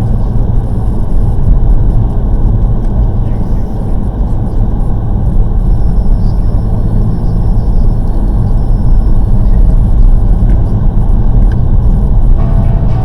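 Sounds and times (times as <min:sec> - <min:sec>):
car engine rumble: 0:00.0 - 0:13.0
tyre road noise on snow: 0:00.0 - 0:13.0.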